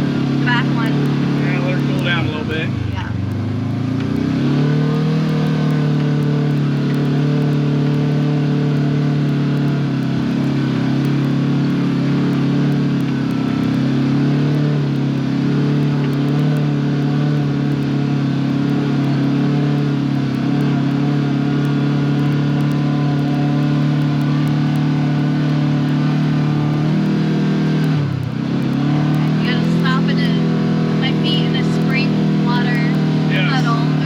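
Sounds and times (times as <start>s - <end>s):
utv engine running: 0.0s - 34.0s.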